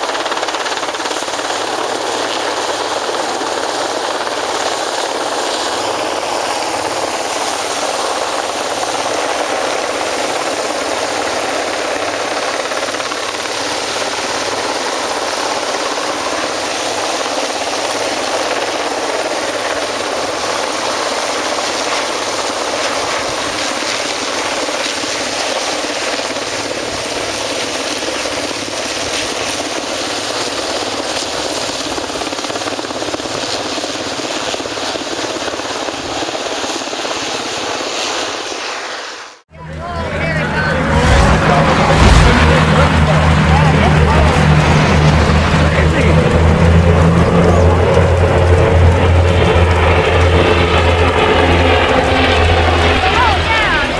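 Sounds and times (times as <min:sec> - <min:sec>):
helicopter hovering: 0:00.0 - 0:53.9.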